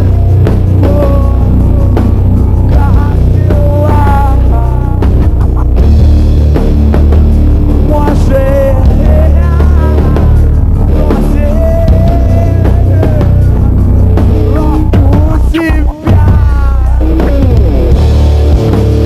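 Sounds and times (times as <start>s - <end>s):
person singing: 0.0s - 5.8s, 7.8s - 18.0s
rock band playing live: 0.0s - 19.0s.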